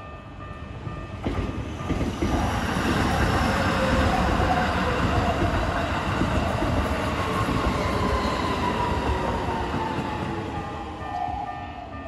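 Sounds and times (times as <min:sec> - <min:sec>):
falling train whine: 0:00.0 - 0:12.0
train wheels rumbling on rails: 0:00.7 - 0:11.4.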